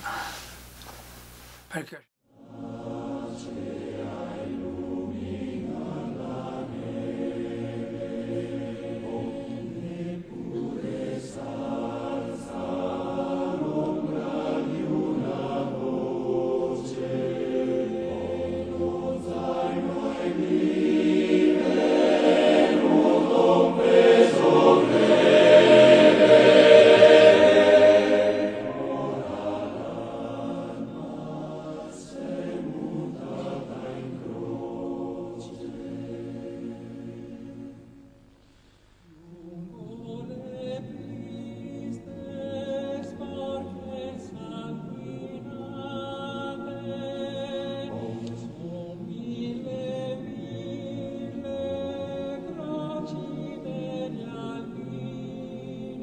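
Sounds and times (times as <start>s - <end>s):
choir singing: 1.9s - 38.0s, 39.2s - 56.0s.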